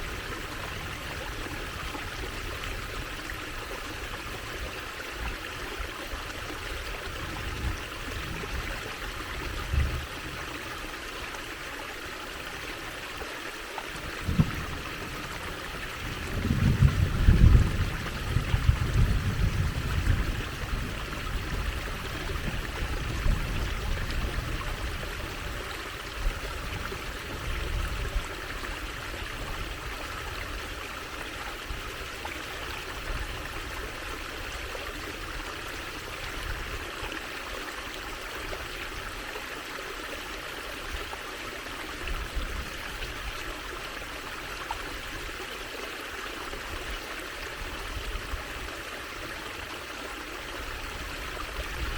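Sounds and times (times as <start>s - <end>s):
water trickling in a stream: 0.0s - 51.9s.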